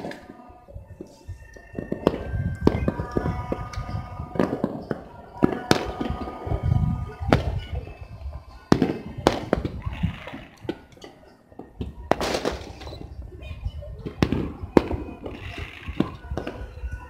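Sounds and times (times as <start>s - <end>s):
firework bangs: 0.0s - 13.2s, 14.0s - 16.8s
rumble of distant fireworks: 0.0s - 17.0s.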